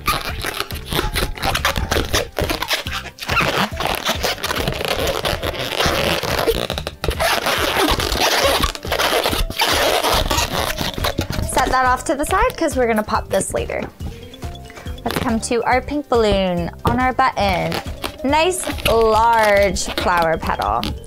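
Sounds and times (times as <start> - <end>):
latex balloon squeaking and rubbing: 0.0 - 21.0.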